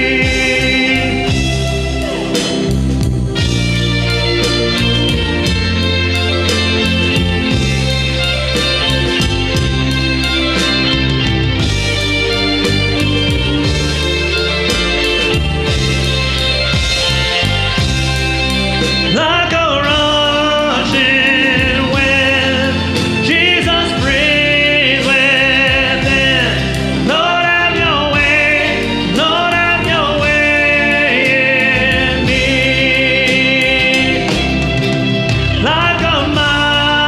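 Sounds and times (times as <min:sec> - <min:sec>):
live band playing: 0:00.0 - 0:37.0
person singing with vibrato: 0:00.0 - 0:37.0.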